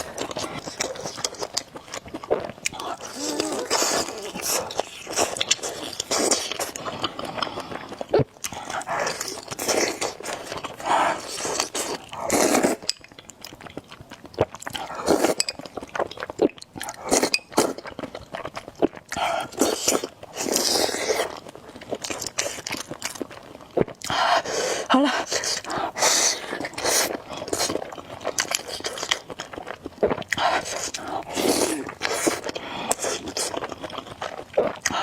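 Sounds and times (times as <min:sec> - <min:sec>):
noodles slurped and chewed: 0:00.0 - 0:35.0.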